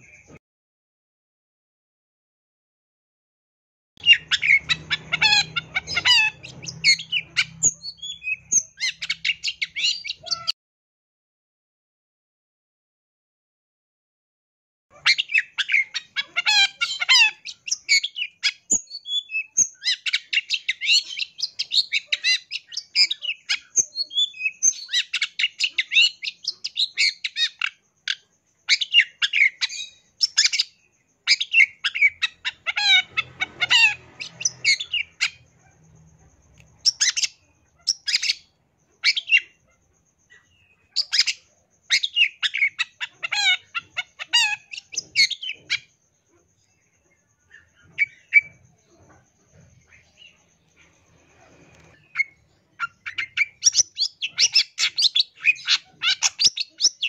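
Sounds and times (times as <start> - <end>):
bird chattering song: 0.0 - 0.4, 4.0 - 10.6, 14.9 - 57.0.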